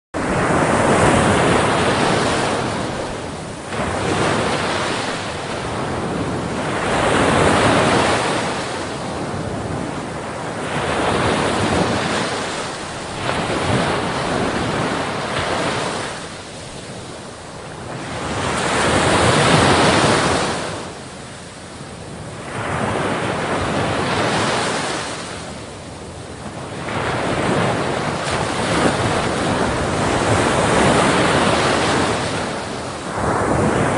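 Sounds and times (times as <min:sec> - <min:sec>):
sea waves crashing against ship: 0:00.2 - 0:33.9
wind buffeting microphone: 0:00.2 - 0:33.9.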